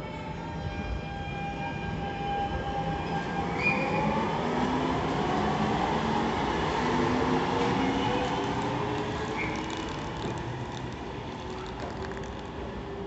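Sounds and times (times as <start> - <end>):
streetcar motors whining: 0.0 - 13.0
wheels rumbling on rail: 2.0 - 13.0.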